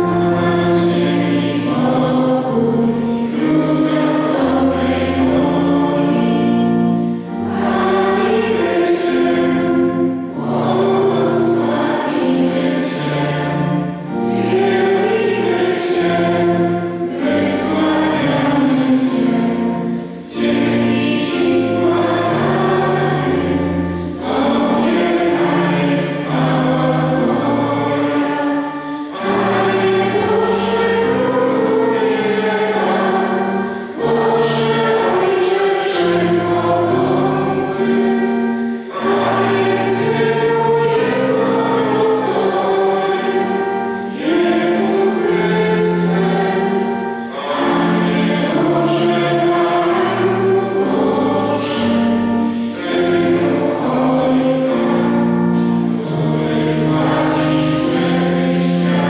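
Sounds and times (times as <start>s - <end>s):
pipe organ playing held chords: 0.0s - 59.0s
voices singing a hymn: 0.0s - 59.0s.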